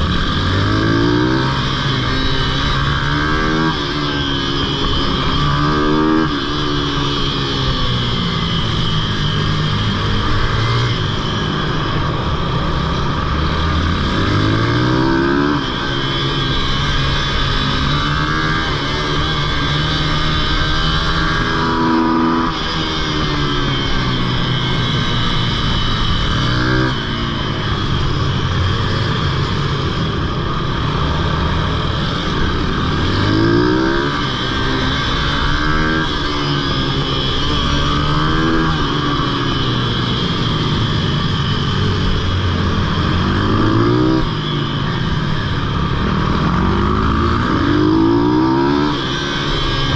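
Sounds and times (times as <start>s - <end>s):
small motorbike engine revving: 0.0s - 49.9s.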